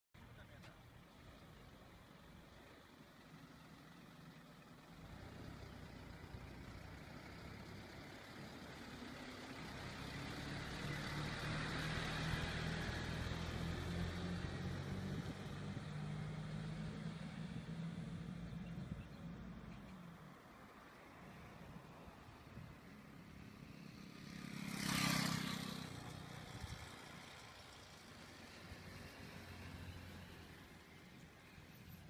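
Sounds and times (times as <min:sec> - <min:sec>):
truck diesel engine passing: 0:01.0 - 0:19.8, 0:20.4 - 0:32.0.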